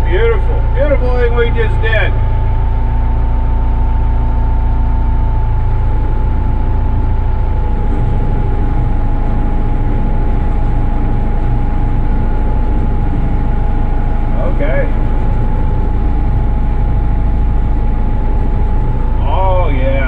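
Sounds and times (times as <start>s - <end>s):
diesel engine rumble: 0.0s - 20.0s
hydraulic whine: 0.0s - 20.0s.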